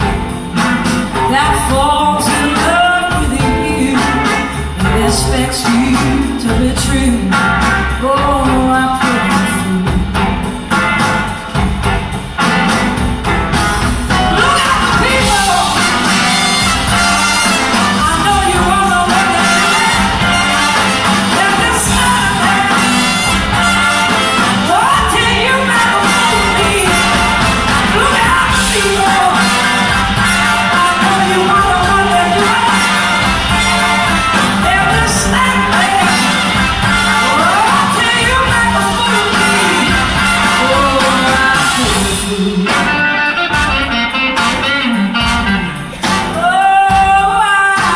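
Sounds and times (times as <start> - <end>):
live blues rock band: 0.0 - 47.9.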